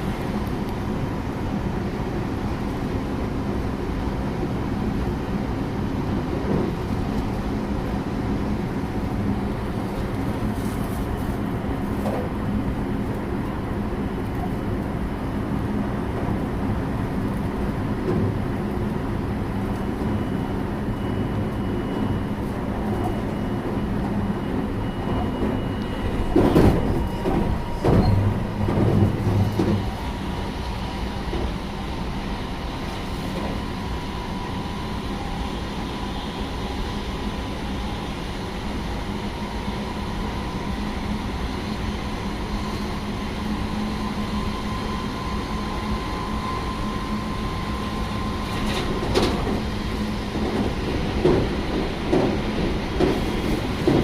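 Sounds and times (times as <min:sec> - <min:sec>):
train hum and rumble: 0:00.0 - 0:54.0
steady whine: 0:05.0 - 0:53.1.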